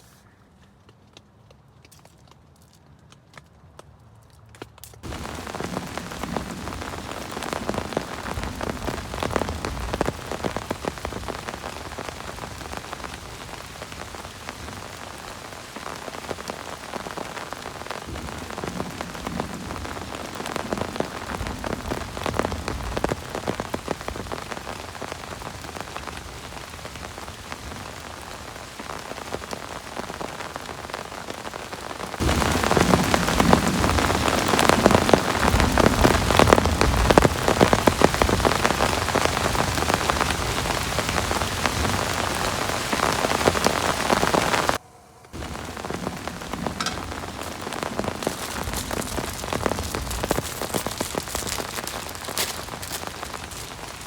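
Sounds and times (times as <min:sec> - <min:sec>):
heavy rain pattering: 0:05.0 - 0:54.0.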